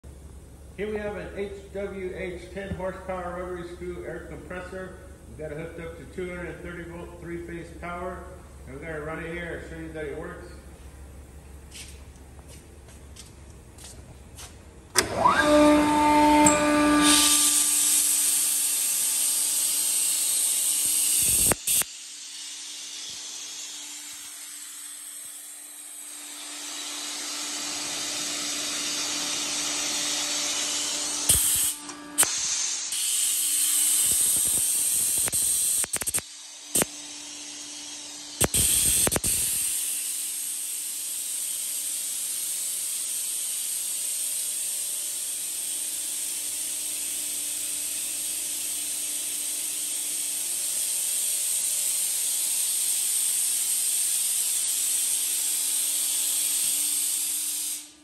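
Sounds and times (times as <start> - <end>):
air compressor running: 0.0 - 58.0.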